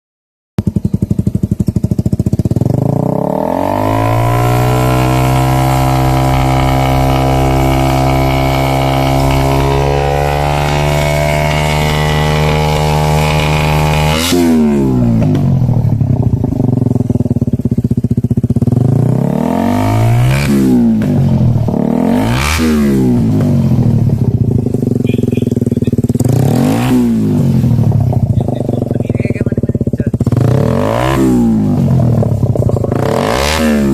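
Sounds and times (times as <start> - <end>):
motorcycle engine revving: 0.6 - 33.9.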